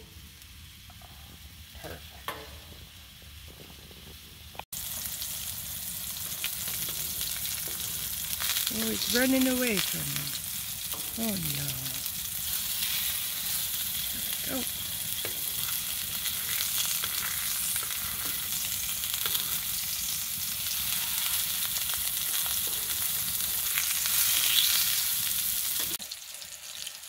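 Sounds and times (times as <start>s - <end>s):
sausages sizzling in a frying pan: 0.0s - 27.0s.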